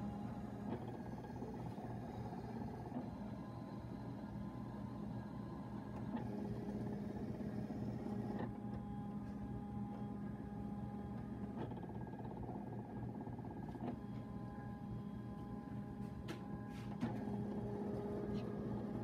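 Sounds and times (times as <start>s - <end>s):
cutting machine motors whirring: 0.0s - 19.0s.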